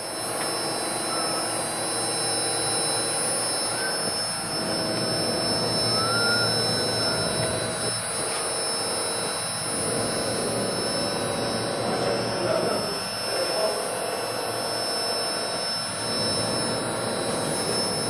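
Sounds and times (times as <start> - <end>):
milling spindle high whine: 0.0 - 18.0.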